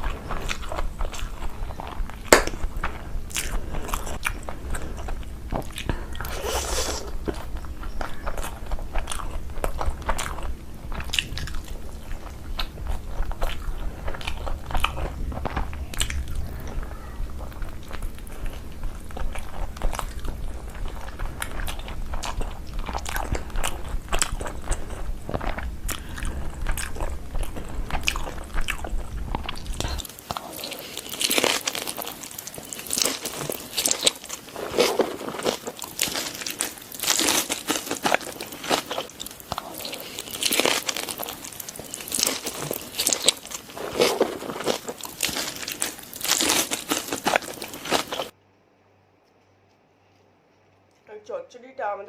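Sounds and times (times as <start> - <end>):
person chewing food: 0.0 - 48.4
low steady hum: 0.0 - 52.0.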